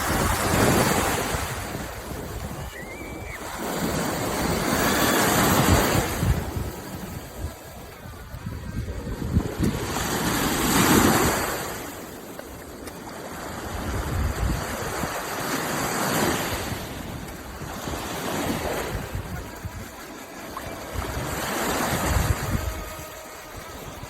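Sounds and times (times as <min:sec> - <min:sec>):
rushing water: 0:00.0 - 0:24.0
wind noise on microphone: 0:00.0 - 0:24.0.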